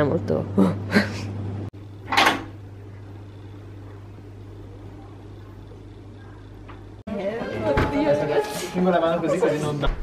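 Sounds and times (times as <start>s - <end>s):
low hum with faint hiss: 0.0s - 10.0s.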